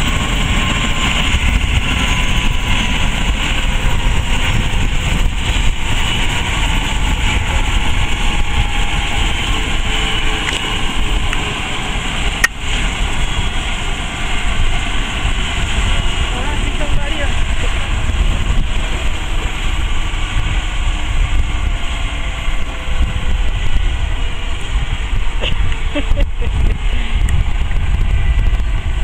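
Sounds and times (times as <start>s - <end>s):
helicopter turbine rumble and whine: 0.0s - 29.0s.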